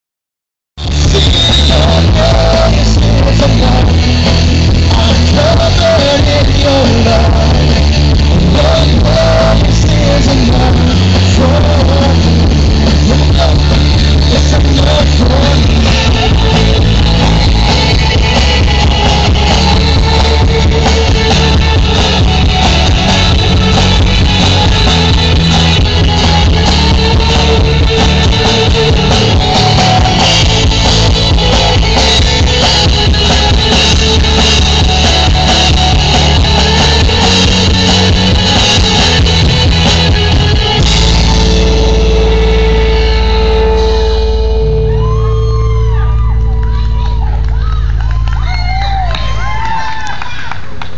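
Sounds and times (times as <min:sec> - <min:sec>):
drum kit: 0:00.8 - 0:49.6
electric and acoustic guitars: 0:00.8 - 0:50.5.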